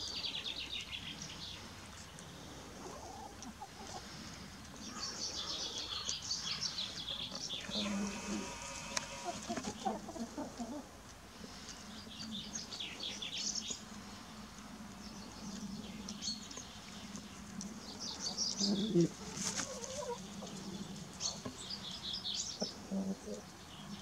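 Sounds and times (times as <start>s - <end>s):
small birds chirping: 0.0s - 24.0s
chickens clucking: 1.6s - 12.3s, 15.5s - 24.0s.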